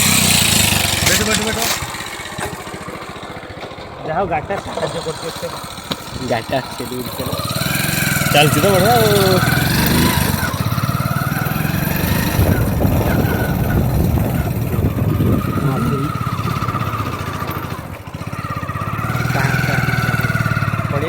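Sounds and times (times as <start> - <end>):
motorcycle engine under load: 0.0 - 21.0.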